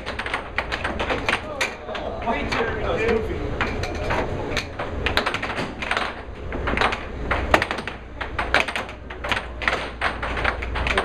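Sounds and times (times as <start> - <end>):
air hockey puck clacking: 0.0 - 11.0.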